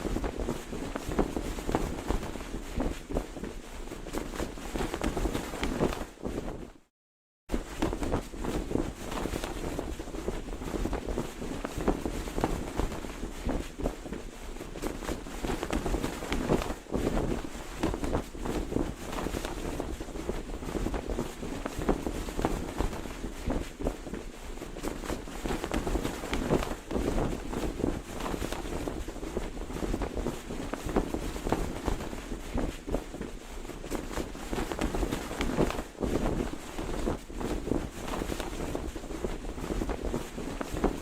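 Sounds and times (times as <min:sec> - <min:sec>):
cloth flag flapping and snapping: 0:00.0 - 0:06.9, 0:07.5 - 0:41.0.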